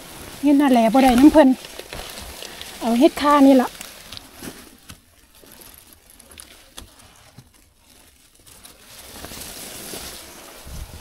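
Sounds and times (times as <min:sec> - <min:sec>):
leaves rustling: 0:00.0 - 0:11.0
soil and twigs crackling: 0:00.0 - 0:11.0.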